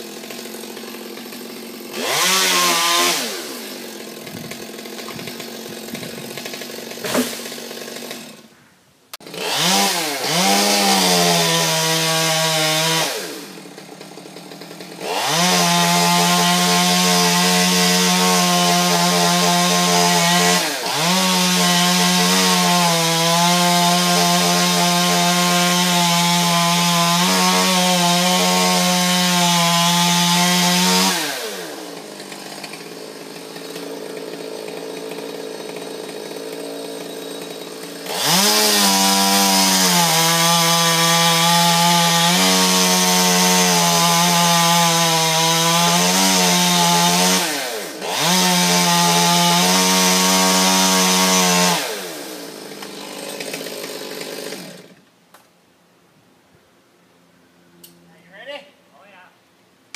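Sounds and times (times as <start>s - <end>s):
chainsaw cutting wood: 0.0s - 8.5s, 9.2s - 55.5s.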